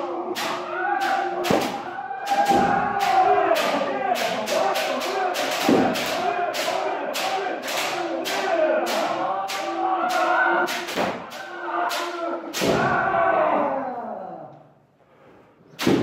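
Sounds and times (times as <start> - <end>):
people shouting: 0.0 - 14.5.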